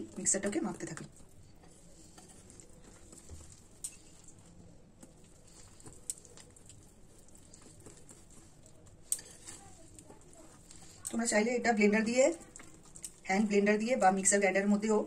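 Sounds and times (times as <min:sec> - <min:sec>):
batter stirred in a bowl: 0:00.0 - 0:15.0.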